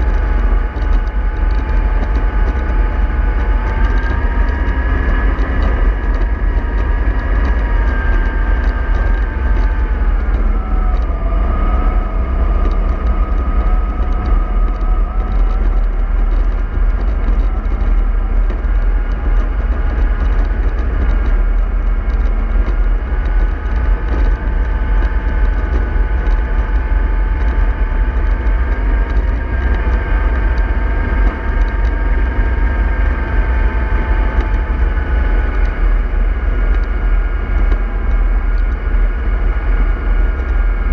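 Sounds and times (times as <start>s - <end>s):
low rumble: 0.0s - 40.9s
vehicle drive whine: 0.0s - 40.9s.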